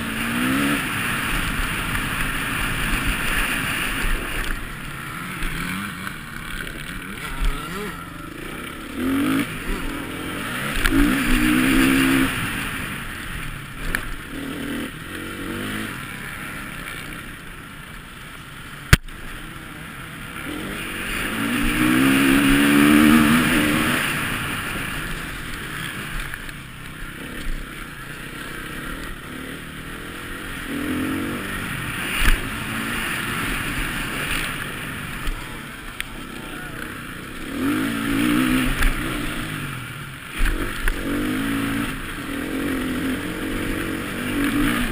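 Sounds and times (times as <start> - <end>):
motocross engine revving: 0.0 - 17.5, 18.5 - 44.9.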